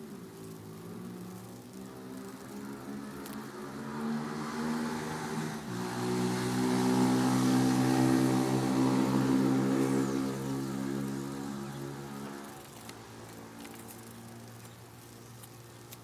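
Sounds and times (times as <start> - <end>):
vehicle engine passing by: 0.0 - 14.7.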